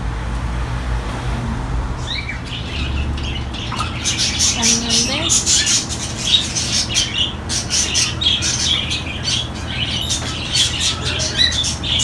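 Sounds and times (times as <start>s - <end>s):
caged birds chirping: 0.3s - 12.0s.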